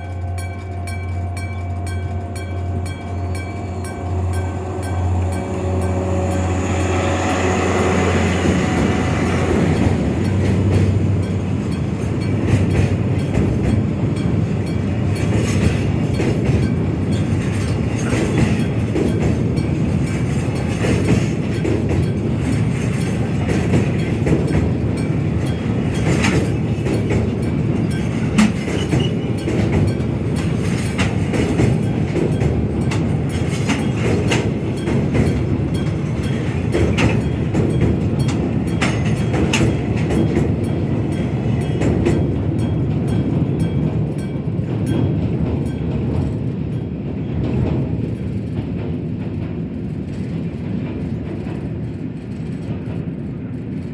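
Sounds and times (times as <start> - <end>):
freight train wagons rumbling: 0.0 - 53.9
train wheel clacks: 0.0 - 53.9.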